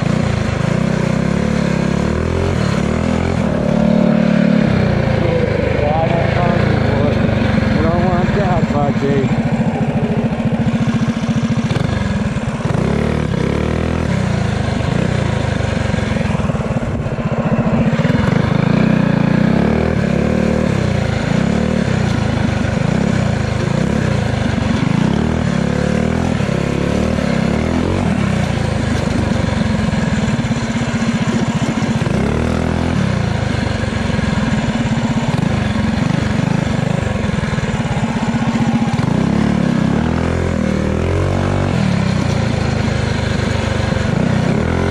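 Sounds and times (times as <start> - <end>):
motorbike engine revving: 0.0 - 44.9.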